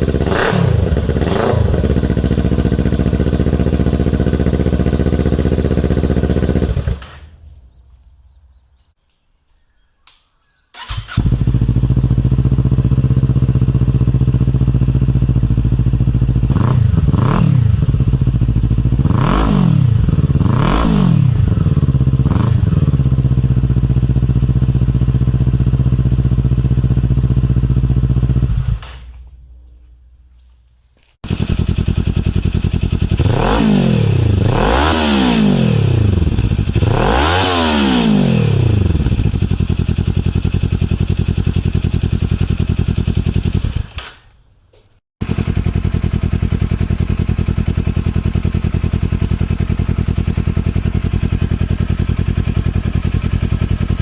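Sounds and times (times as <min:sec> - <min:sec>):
motorcycle engine idling and revving: 0:00.0 - 0:08.9, 0:10.8 - 0:30.1, 0:31.2 - 0:44.4, 0:45.2 - 0:54.0.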